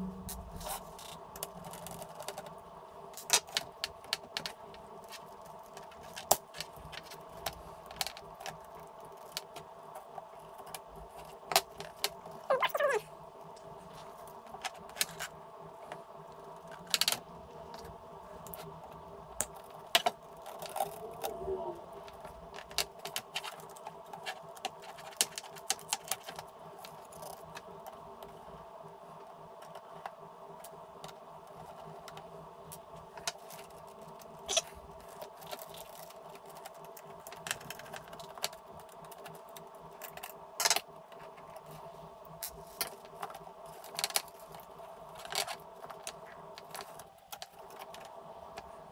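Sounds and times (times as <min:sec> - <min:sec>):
background hum: 0:00.0 - 0:48.9.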